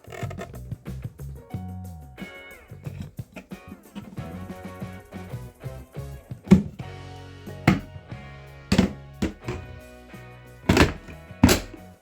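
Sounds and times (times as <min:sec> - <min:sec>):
guitar-led music with drums: 0:00.0 - 0:12.0.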